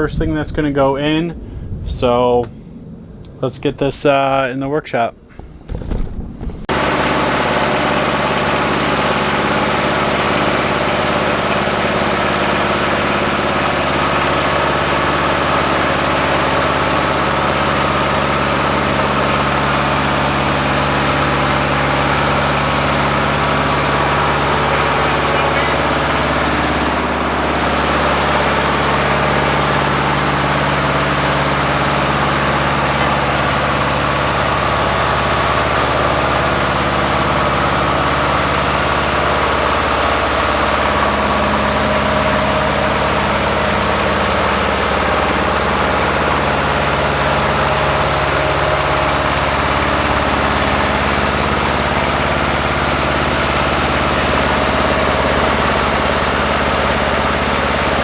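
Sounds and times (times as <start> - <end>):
tractor diesel engine idling: 6.6 - 58.0.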